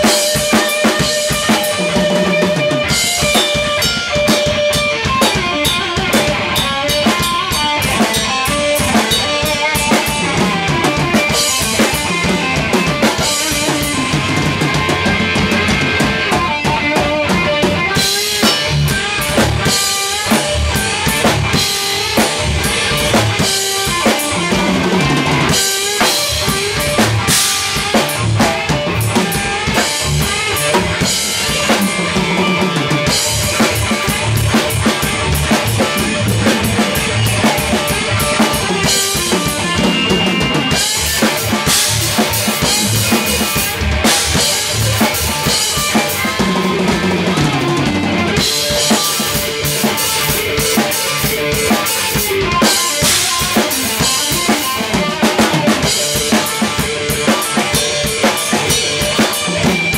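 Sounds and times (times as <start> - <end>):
bass drum and snare beat: 0.0 - 59.9
heavy rock band playing: 0.0 - 59.9.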